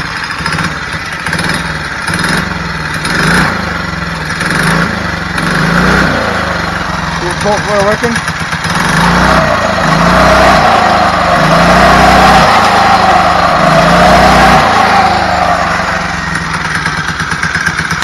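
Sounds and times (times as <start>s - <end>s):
small engine revving and idling: 0.0s - 18.0s.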